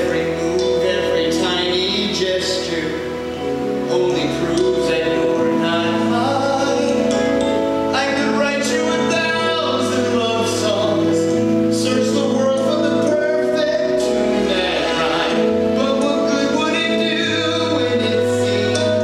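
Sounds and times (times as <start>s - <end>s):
instrumental accompaniment: 0.0s - 19.0s
man singing a ballad: 0.0s - 19.0s.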